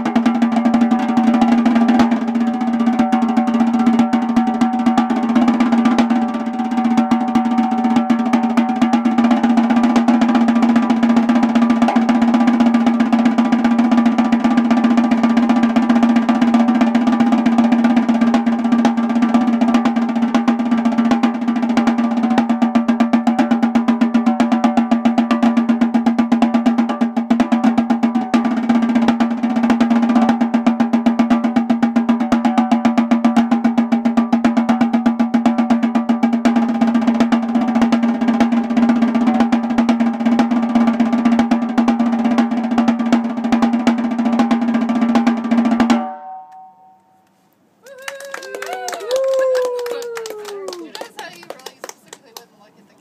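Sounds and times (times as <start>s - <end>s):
snare drum rolls: 0.0s - 46.3s.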